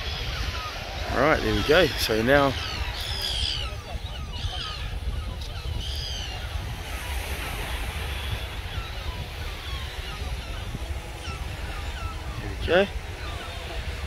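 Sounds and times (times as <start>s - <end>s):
small waves washing on beach: 0.0s - 14.0s
wind buffeting microphone: 0.0s - 14.0s.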